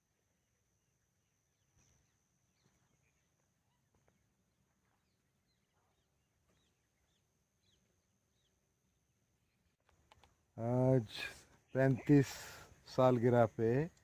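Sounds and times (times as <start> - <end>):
distant bird chirps: 0.1 - 14.0.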